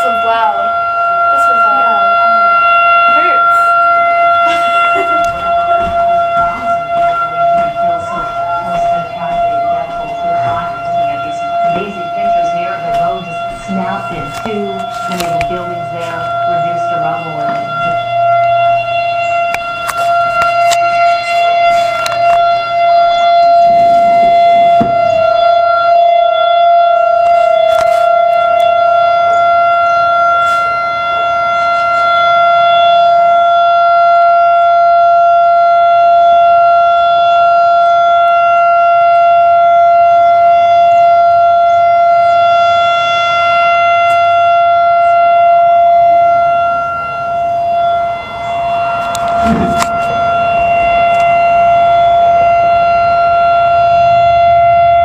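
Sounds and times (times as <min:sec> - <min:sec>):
steady warning siren: 0:00.0 - 0:55.0.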